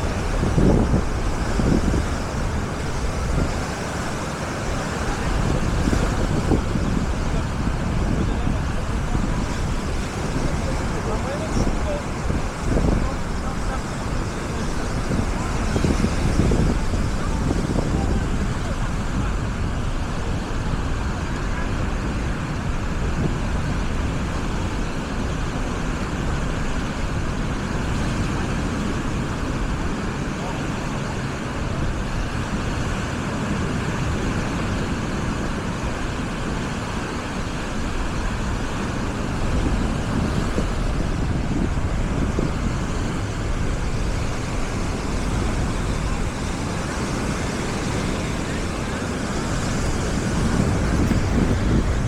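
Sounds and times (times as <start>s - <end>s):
faint voices of people: 0.0s - 22.4s, 28.0s - 52.0s
surf: 0.0s - 52.0s
wind: 0.0s - 52.0s.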